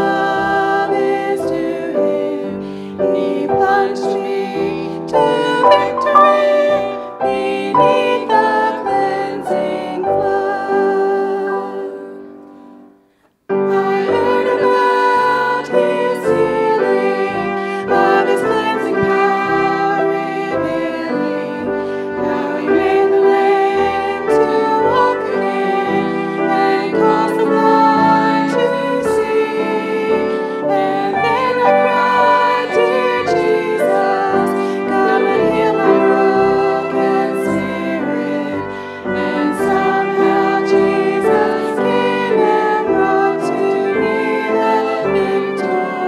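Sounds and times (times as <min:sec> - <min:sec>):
group singing a hymn: 0:00.0 - 0:12.8, 0:13.5 - 0:46.0
piano accompaniment: 0:00.0 - 0:46.0.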